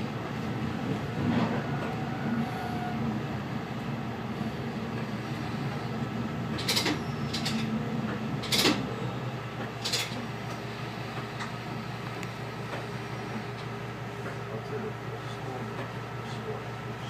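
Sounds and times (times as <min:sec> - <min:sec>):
diesel railcar engine: 0:00.0 - 0:17.0.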